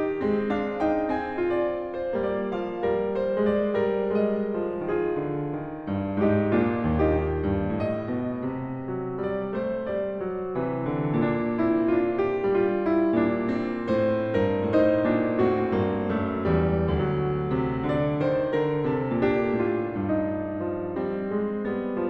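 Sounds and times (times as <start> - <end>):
solo piano christmas music: 0.0 - 22.0.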